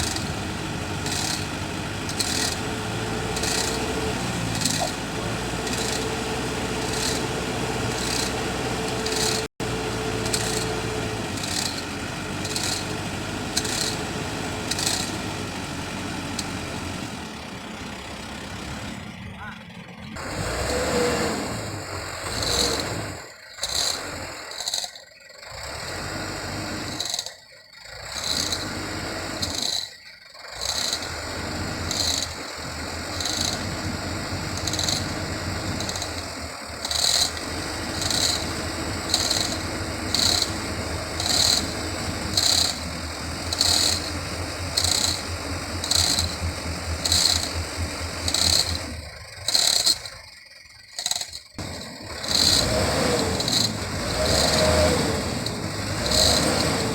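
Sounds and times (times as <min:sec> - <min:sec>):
regular clicking: 0:00.0 - 0:02.7, 0:03.4 - 0:05.0, 0:05.6 - 0:09.5, 0:10.2 - 0:15.4, 0:22.2 - 0:25.2, 0:26.3 - 0:56.9
metal chain rattling and scraping: 0:00.0 - 0:09.5, 0:10.2 - 0:15.5, 0:22.4 - 0:25.3, 0:26.3 - 0:56.9
low engine hum: 0:00.0 - 0:24.4, 0:30.5 - 0:56.9.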